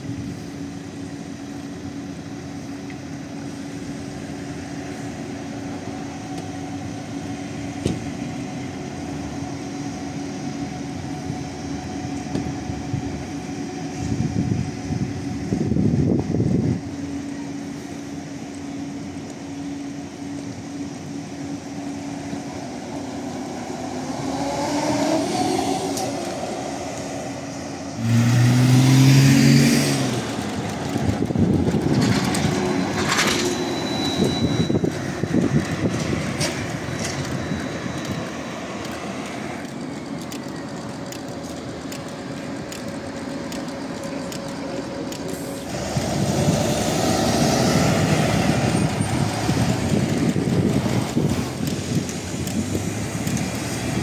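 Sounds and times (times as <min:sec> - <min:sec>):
buses passing with tyre noise: 0:00.0 - 0:54.0
trolleybus drive whine: 0:00.0 - 0:54.0.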